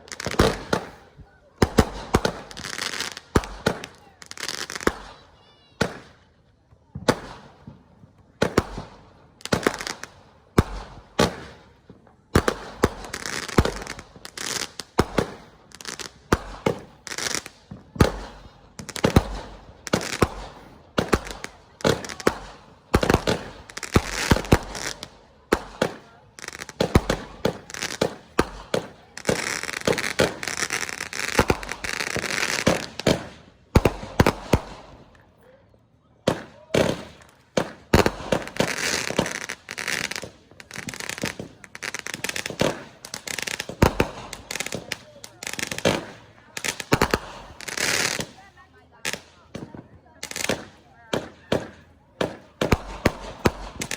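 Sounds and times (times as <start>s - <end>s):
fireworks booming bursts: 0.0s - 35.3s, 36.2s - 53.9s
fireworks crackling: 0.0s - 35.6s, 36.2s - 53.9s.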